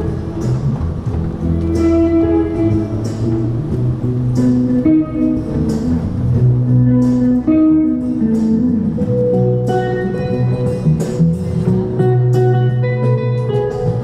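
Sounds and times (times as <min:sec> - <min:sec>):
guitar strumming and picking: 0:00.0 - 0:14.0.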